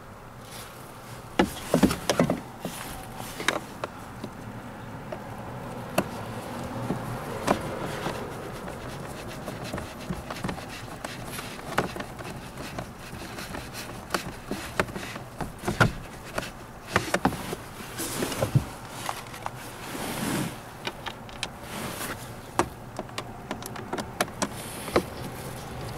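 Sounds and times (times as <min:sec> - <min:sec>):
low steady hiss: 0:00.0 - 0:23.7.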